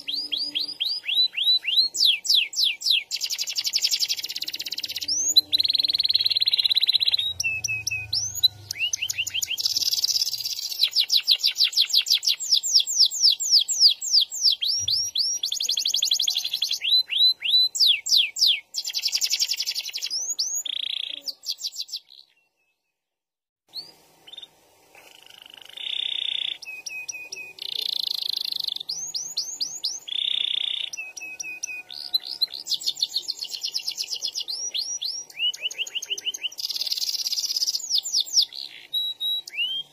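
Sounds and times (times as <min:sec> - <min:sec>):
canary singing trills: 0:00.0 - 0:22.8, 0:23.7 - 0:39.9.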